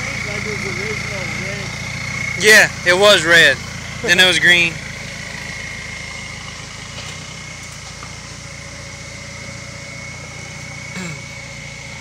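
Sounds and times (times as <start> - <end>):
diesel engine running at low revs: 0.0 - 12.0.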